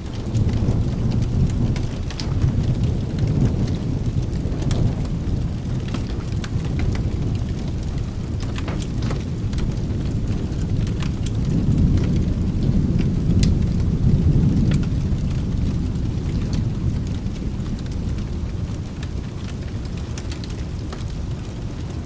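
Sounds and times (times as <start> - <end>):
fireplace crackles: 0.0 - 22.0
low rolling thunder rumble: 0.0 - 22.0
steady rain: 0.0 - 22.0.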